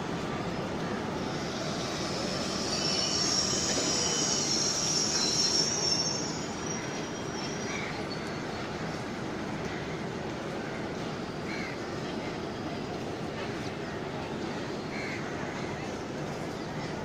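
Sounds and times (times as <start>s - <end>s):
train rumble: 0.0s - 17.0s
train wheels squealing on rails: 0.0s - 17.0s.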